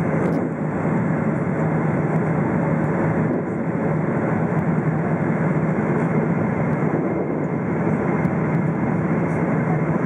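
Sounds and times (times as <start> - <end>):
aircraft cabin engine roar: 0.0 - 10.0.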